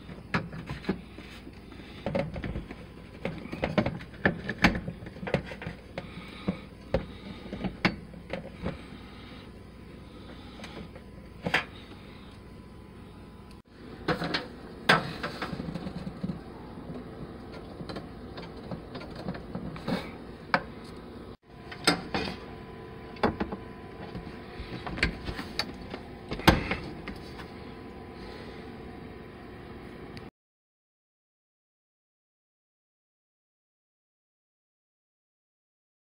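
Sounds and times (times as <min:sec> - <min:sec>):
steady background hum: 0:00.0 - 0:30.3.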